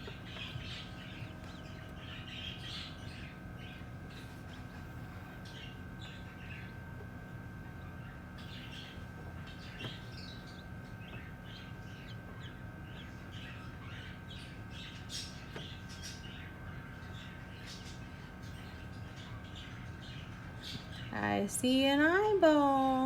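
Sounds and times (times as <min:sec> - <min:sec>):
baby chicks peeping: 0:00.0 - 0:23.0
steady low hum: 0:00.0 - 0:23.0.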